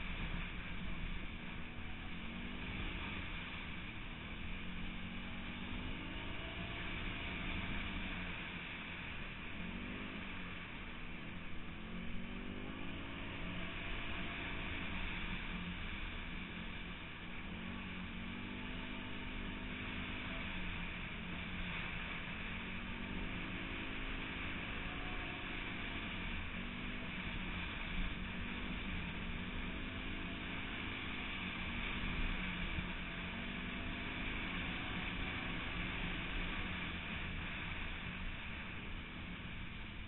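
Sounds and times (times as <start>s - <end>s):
off-road vehicle engine accelerating: 0.0s - 40.0s.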